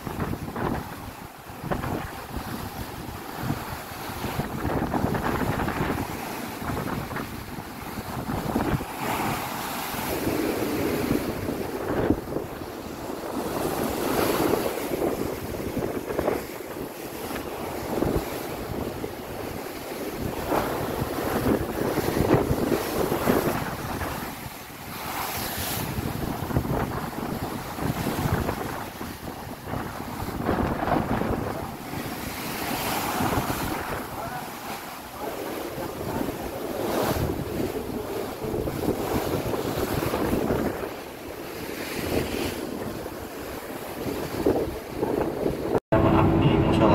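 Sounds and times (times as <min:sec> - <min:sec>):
sea waves rushing: 0:00.0 - 0:46.9
wind buffeting microphone: 0:00.0 - 0:46.9.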